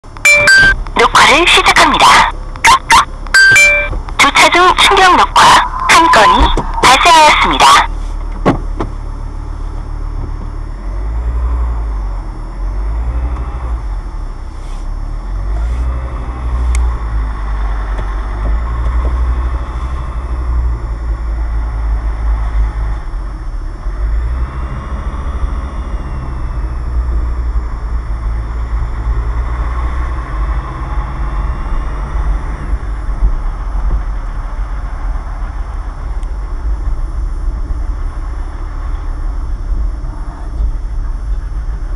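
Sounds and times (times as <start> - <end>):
car engine rumble: 0.0 - 41.9
road noise inside car: 0.0 - 41.9.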